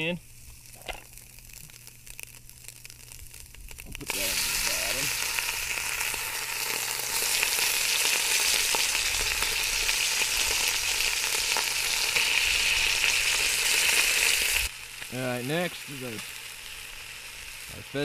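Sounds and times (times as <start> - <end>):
bacon sizzling in oil: 0.0 - 18.0.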